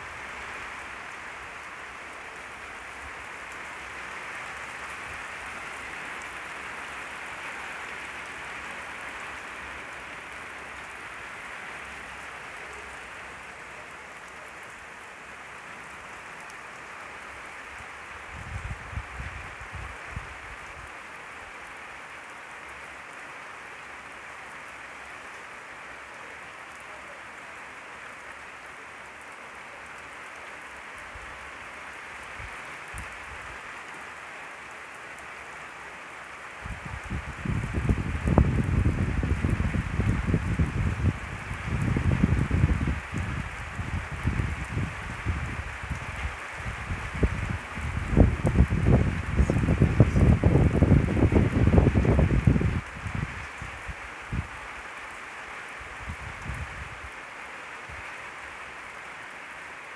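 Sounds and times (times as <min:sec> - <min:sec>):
heavy rain on wet ground: 0:00.0 - 0:59.9.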